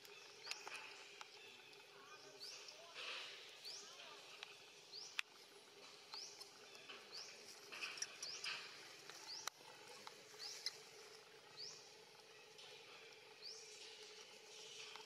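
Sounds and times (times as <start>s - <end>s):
forest background: 0.0s - 15.0s.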